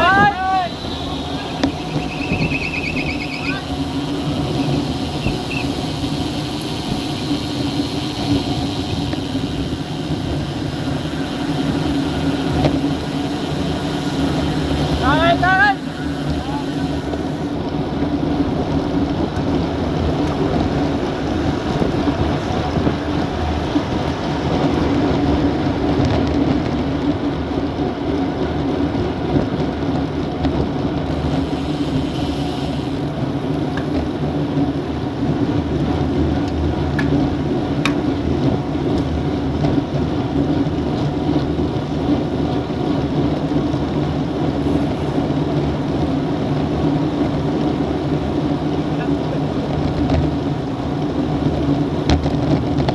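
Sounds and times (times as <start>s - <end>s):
wind rush on microphone: 0.0s - 52.9s.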